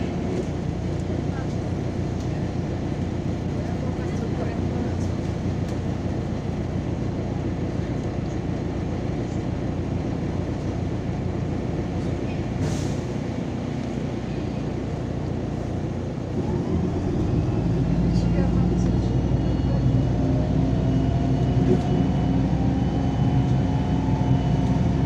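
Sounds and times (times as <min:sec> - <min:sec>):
bus engine and road noise: 0:00.0 - 0:25.0.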